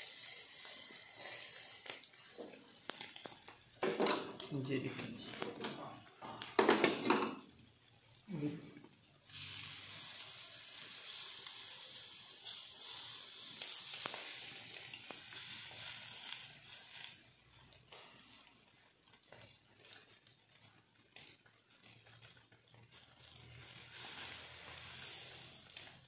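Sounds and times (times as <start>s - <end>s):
crackles and ticks: 0.0s - 26.0s
fish sizzling on charcoal grill: 0.0s - 26.0s.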